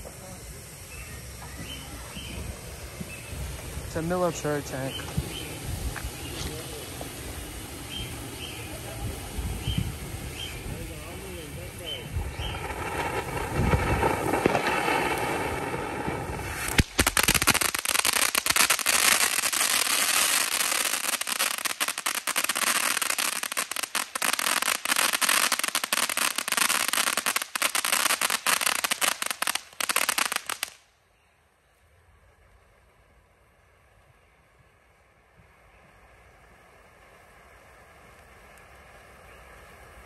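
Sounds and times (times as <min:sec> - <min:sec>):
firework sparks hissing: 0:00.0 - 0:30.9, 0:36.0 - 0:40.0
firework crackling: 0:00.0 - 0:31.0, 0:32.3 - 0:40.0.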